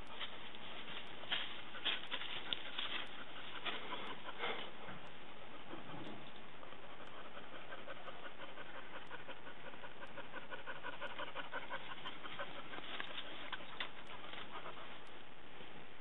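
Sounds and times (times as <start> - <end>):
dog panting: 0.0 - 15.2.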